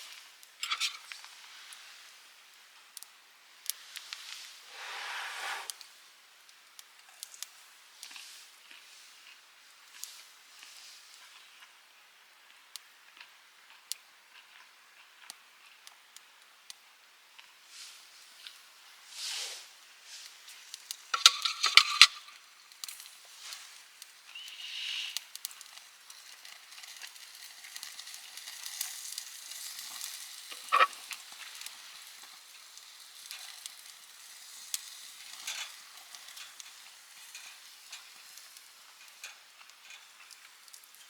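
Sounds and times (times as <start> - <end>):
sizzling hiss over fire: 0.0 - 41.0
wood fire crackling: 0.0 - 41.0.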